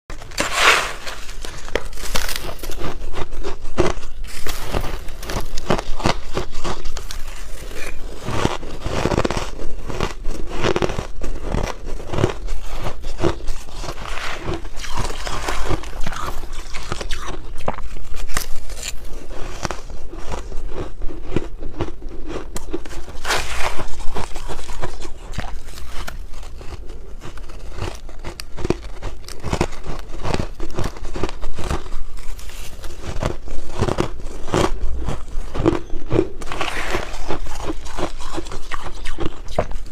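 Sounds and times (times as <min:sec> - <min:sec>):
chewing crunchy ice: 0:00.1 - 0:39.9.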